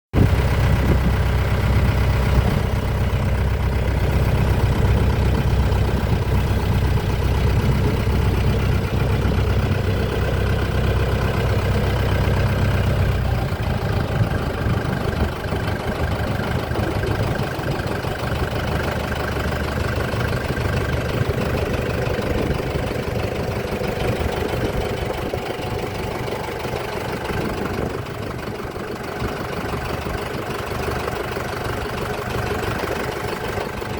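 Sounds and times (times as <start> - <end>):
motorboat engine running: 0.2 - 33.9.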